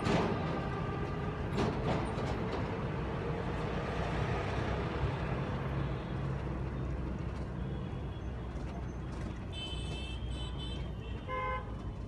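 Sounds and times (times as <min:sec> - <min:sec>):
city traffic passing: 0:00.0 - 0:12.0
vehicle engine and road rumble: 0:00.0 - 0:12.0.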